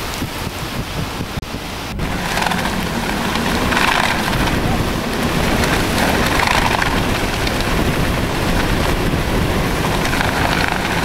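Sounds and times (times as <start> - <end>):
strong wind blasting microphone: 0.0 - 11.0.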